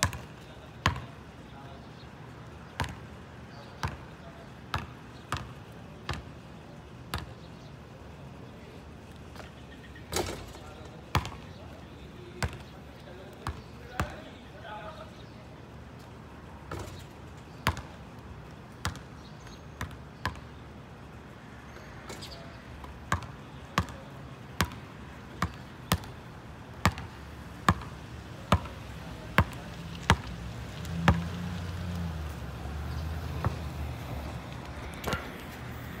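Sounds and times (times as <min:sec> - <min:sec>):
basketball bouncing on asphalt: 0:00.0 - 0:07.5, 0:10.1 - 0:15.0, 0:16.0 - 0:20.7, 0:21.6 - 0:31.4, 0:32.9 - 0:36.0.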